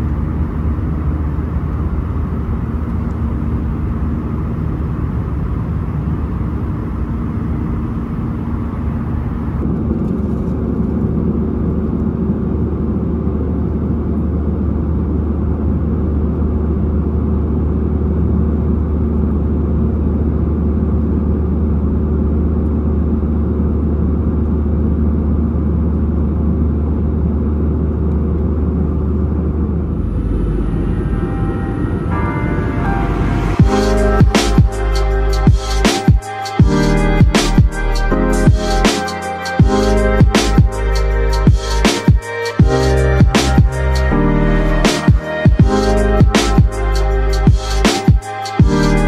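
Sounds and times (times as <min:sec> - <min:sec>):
jet airliner cabin drone: 0:00.0 - 0:49.0.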